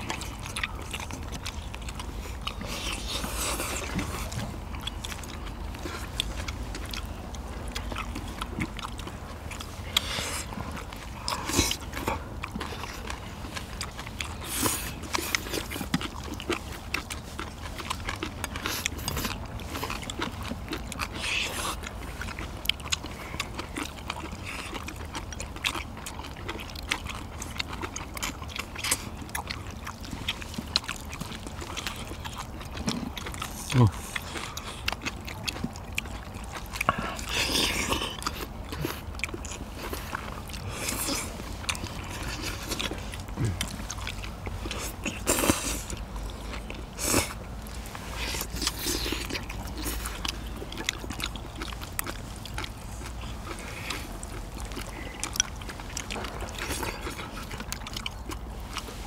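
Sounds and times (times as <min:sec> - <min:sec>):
people chewing and slurping: 0:00.0 - 0:59.0.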